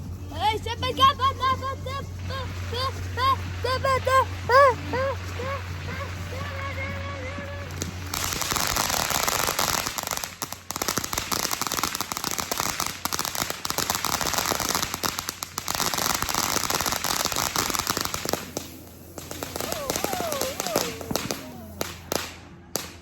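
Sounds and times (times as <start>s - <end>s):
firework crackling: 0.0s - 23.0s.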